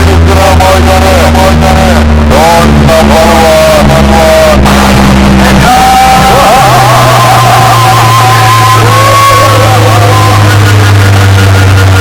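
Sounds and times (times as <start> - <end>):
loud dance music with heavy bass: 0.0 - 12.0
sung vocals: 0.0 - 12.0.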